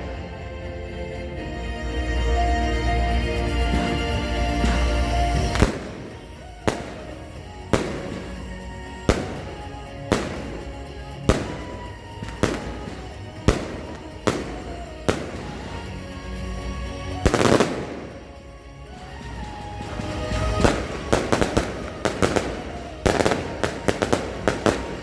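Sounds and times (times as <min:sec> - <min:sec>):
firework bangs: 0:04.6 - 0:25.0.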